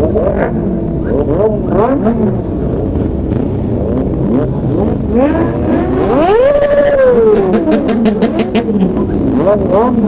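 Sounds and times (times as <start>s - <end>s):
motorcycle engine revving: 0.0s - 10.0s
motorcycle engines idling: 0.0s - 10.0s.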